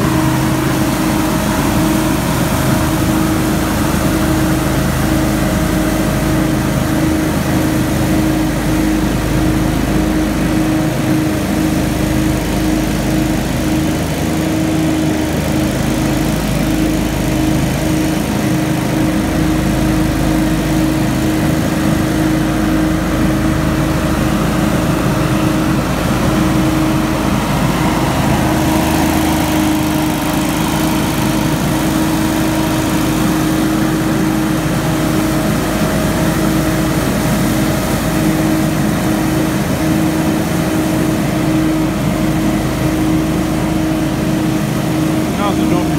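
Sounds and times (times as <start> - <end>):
leaf blower running: 0.0 - 45.9.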